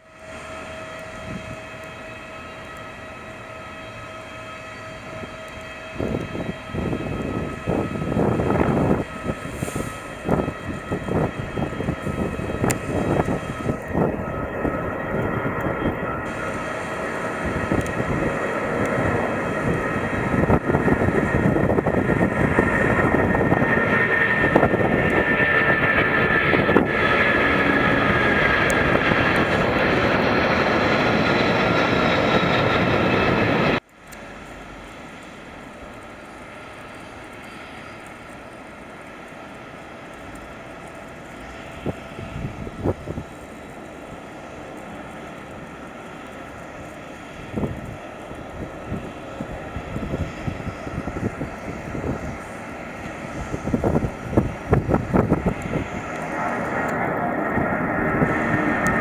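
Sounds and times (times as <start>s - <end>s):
distant jet noise: 0.0s - 59.0s
jet airliner taking off: 0.0s - 59.0s.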